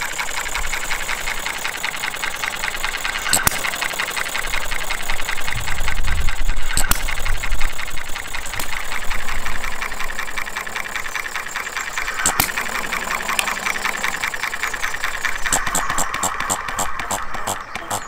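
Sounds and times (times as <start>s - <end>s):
small engine clattering: 0.0s - 18.0s.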